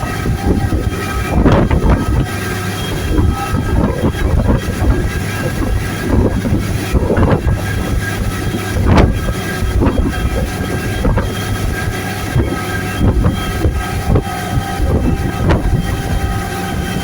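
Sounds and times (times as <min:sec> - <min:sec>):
motorboat engine running: 0:00.0 - 0:17.0
wind and water noise: 0:00.0 - 0:17.0.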